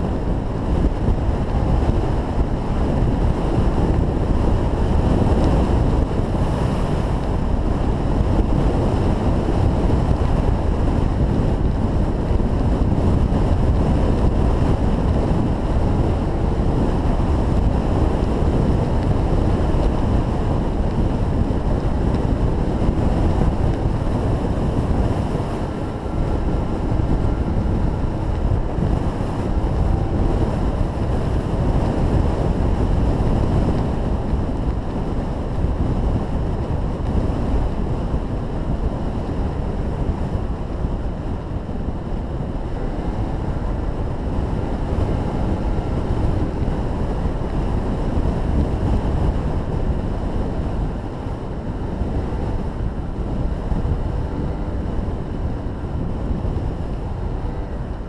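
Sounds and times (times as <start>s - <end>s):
wheels rumbling on asphalt: 0.0s - 58.0s
wind rushing over microphone: 0.0s - 58.0s.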